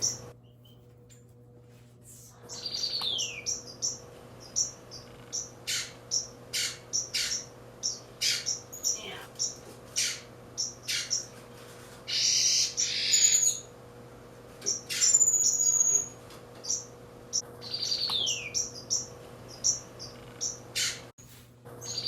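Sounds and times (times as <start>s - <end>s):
finches chirping: 0.0s - 0.9s, 2.4s - 11.3s, 12.1s - 13.7s, 14.6s - 21.1s.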